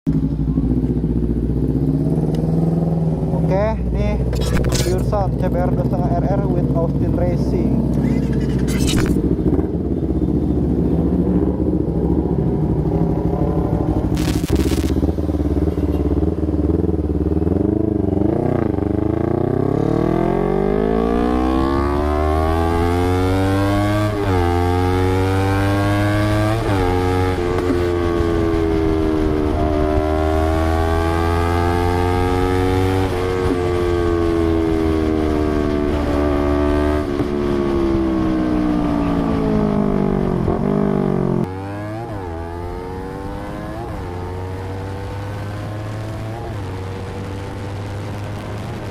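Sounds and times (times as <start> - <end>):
motorcycle engine: 0.1 - 48.9.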